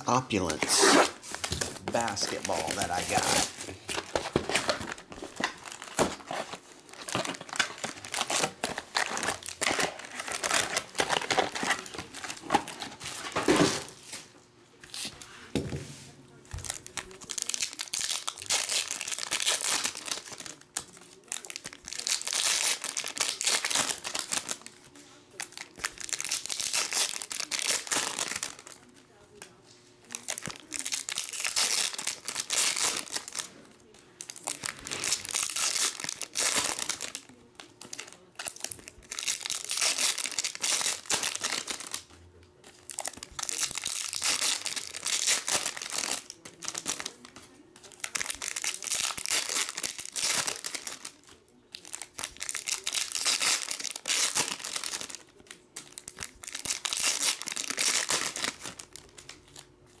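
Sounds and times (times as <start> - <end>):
foil wrappers tearing and crinkling: 0.3 - 14.2, 16.6 - 42.1, 42.7 - 60.0.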